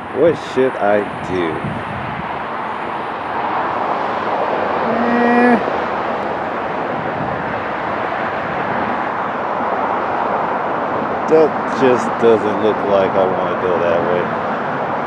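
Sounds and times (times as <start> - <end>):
distant road traffic hiss: 0.0 - 1.6, 2.3 - 15.0.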